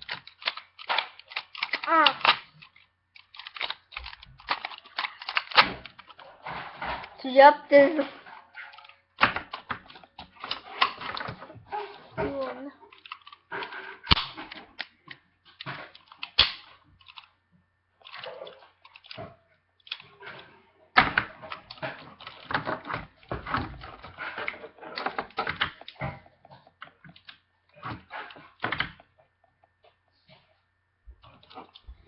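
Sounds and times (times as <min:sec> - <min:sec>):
plastic toy parts clicking: 0:00.0 - 0:06.2, 0:08.6 - 0:17.3, 0:18.0 - 0:29.7.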